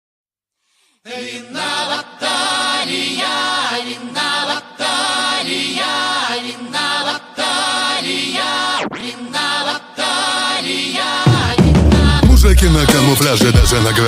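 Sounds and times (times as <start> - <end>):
choir singing in harmony: 1.0 - 14.0.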